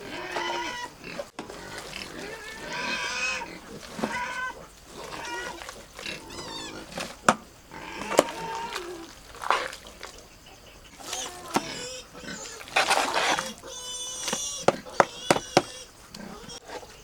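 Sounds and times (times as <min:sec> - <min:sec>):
pigs squealing and grunting: 0:00.0 - 0:17.0.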